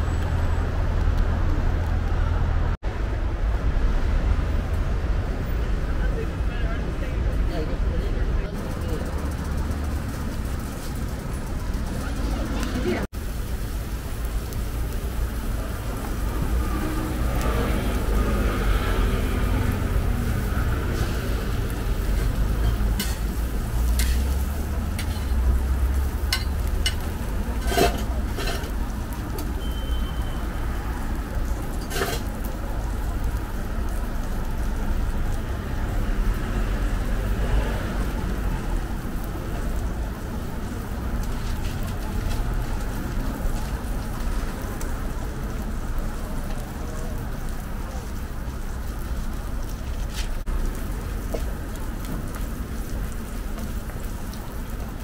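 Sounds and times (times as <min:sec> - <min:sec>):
food sizzling on griddle: 0:08.5 - 0:55.0.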